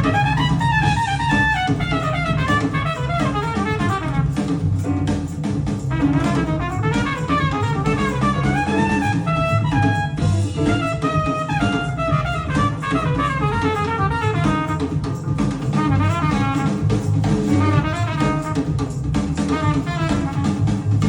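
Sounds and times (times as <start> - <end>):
jazz music with drums and brass: 0.0 - 21.0.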